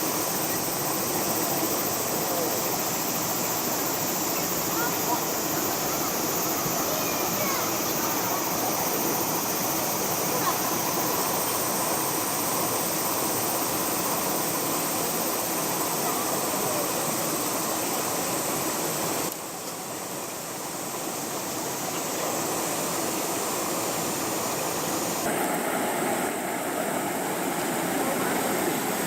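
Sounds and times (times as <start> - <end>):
rushing stream water: 0.0 - 29.0.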